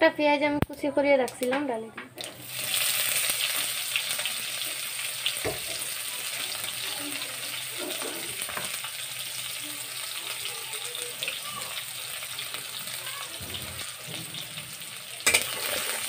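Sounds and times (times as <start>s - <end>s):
onions sizzling in oil: 2.2s - 16.0s.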